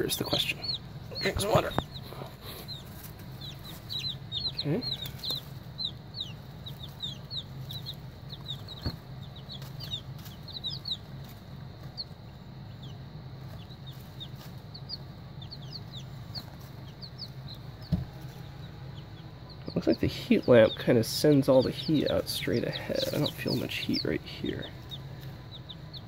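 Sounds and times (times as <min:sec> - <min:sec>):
baby chicks peeping: 0:00.0 - 0:26.0
steady low hum: 0:00.0 - 0:26.0.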